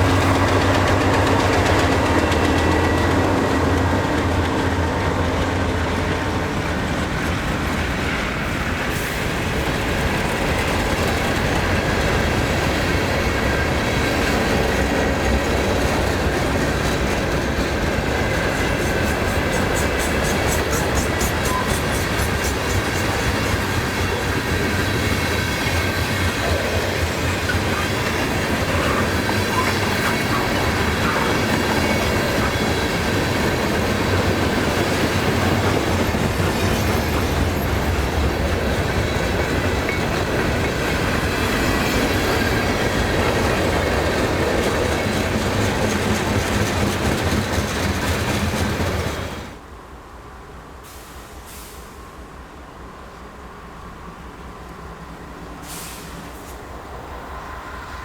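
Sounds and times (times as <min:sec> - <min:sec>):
wheels clacking over rail joints: 0:00.0 - 0:49.6
freight train rumbling past: 0:00.0 - 0:58.0.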